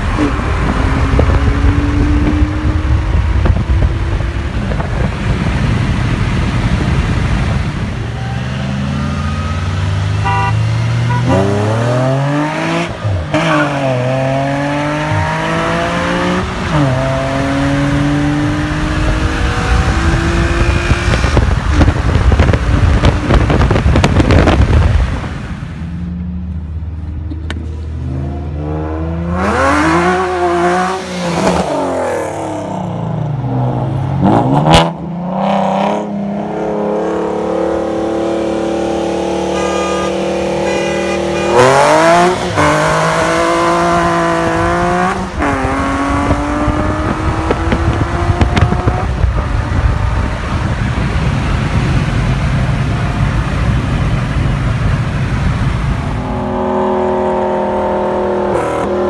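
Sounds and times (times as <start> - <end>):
sports car engines accelerating: 0.0 - 59.0
wind and road noise: 0.0 - 59.0.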